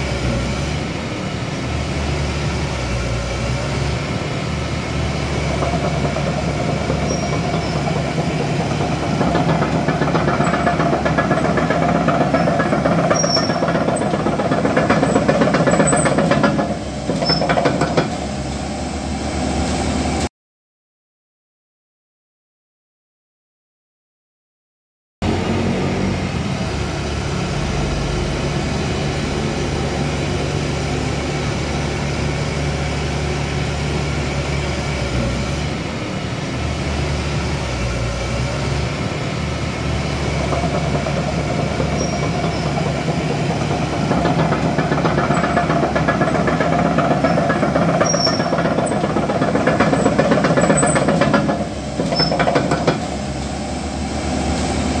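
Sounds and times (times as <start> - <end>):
excavator diesel engine running: 0.0 - 20.3, 25.2 - 55.0.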